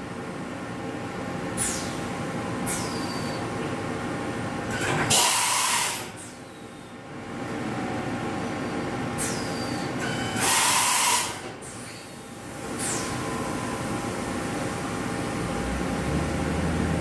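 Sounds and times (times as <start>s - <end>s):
machine mechanical hum: 0.0s - 17.0s.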